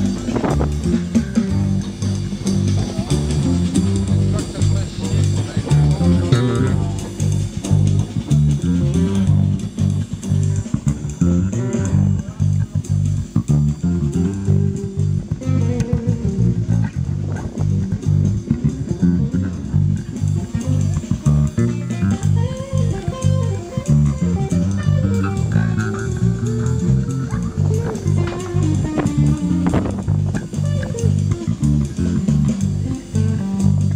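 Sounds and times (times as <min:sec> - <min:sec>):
bass guitar riff: 0:00.0 - 0:33.9.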